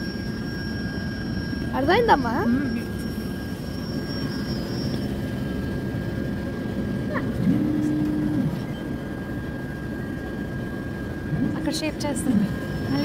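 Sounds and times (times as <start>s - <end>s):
motor tone rising: 0.0s - 13.0s
machine mechanical whirr: 0.2s - 13.0s.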